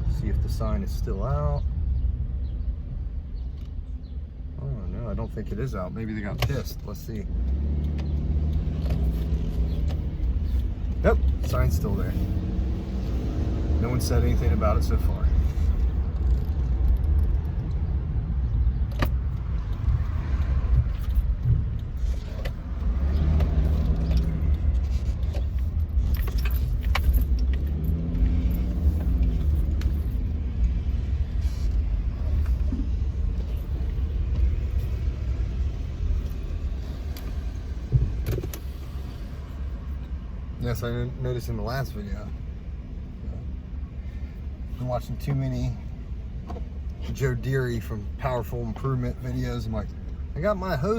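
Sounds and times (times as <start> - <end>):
road and engine rumble: 0.0 - 50.9.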